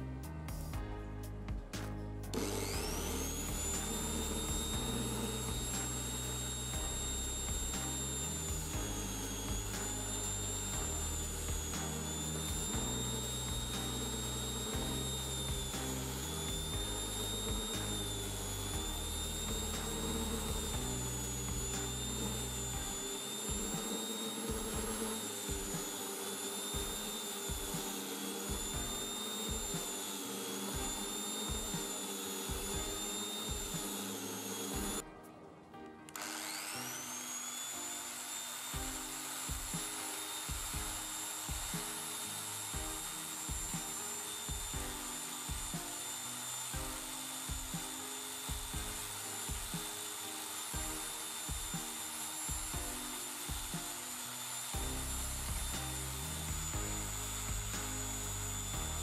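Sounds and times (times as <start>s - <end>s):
background music with steady beat: 0.0s - 59.0s
angle grinder whine: 2.3s - 35.1s, 36.1s - 59.0s.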